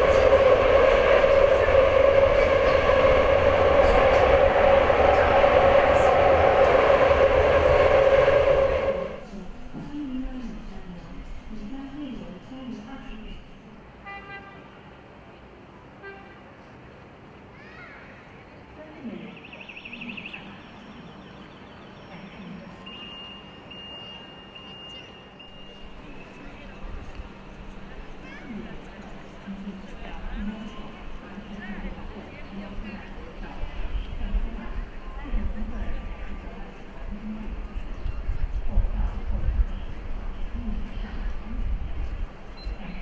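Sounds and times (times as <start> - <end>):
city street din: 0.0 - 43.0
metro train rumble and whine: 0.0 - 43.0.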